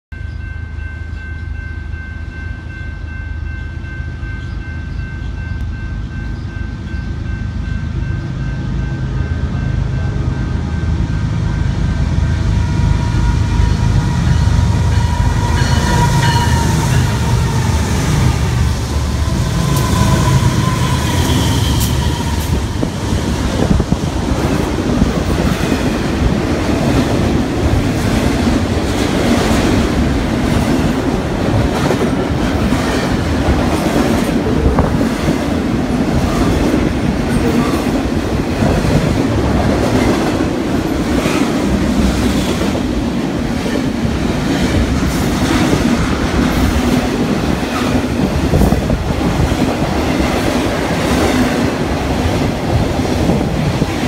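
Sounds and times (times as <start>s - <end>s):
diesel locomotive engine rumble: 0.2s - 54.0s.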